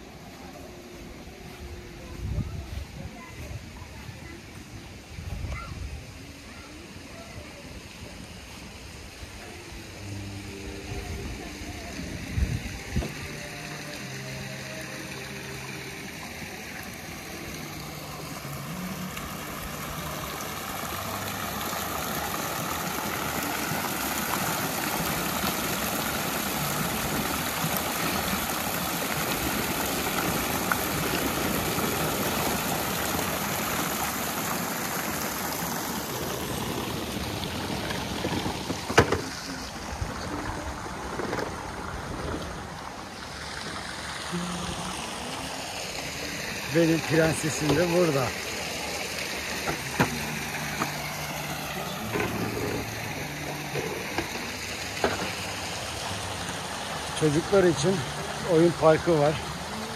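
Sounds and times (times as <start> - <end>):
water jets spraying into pool: 0.0 - 59.9.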